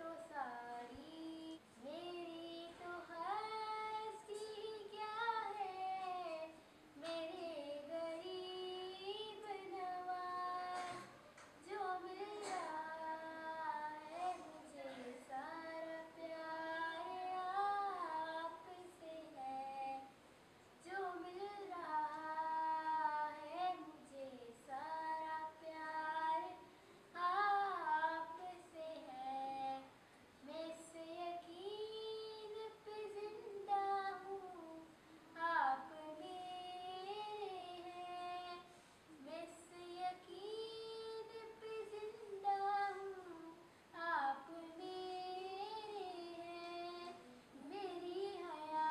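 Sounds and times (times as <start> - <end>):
girl singing unaccompanied: 0.0 - 48.9.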